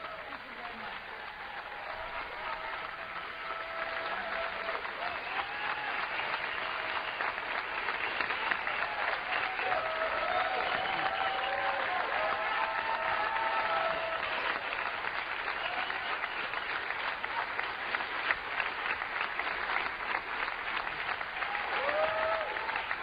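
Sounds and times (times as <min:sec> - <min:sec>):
people whooping and cheering: 0:00.0 - 0:17.7, 0:21.0 - 0:23.0
audience applauding: 0:00.0 - 0:23.0.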